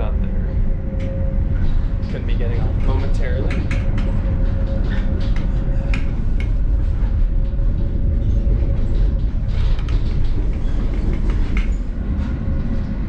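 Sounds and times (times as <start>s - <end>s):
faint steady whine: 0.0s - 13.0s
tram rumbling: 0.0s - 13.0s.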